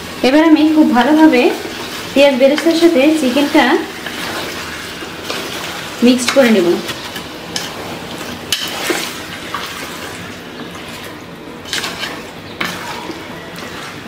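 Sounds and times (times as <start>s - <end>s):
chicken sizzling in hot oil: 0.0s - 14.0s
wooden spatula scraping a pot: 1.6s - 14.0s.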